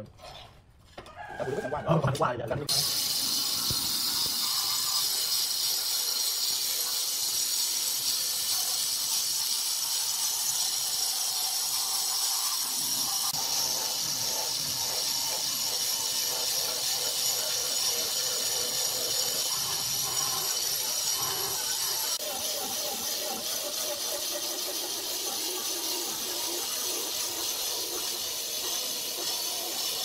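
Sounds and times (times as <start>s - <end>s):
stone cutter grinding granite: 2.7s - 30.0s.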